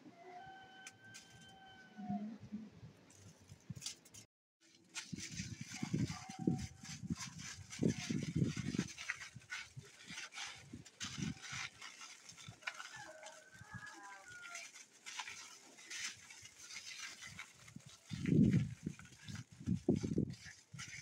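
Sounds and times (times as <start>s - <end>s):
aluminium foil crinkling: 3.1s - 21.0s.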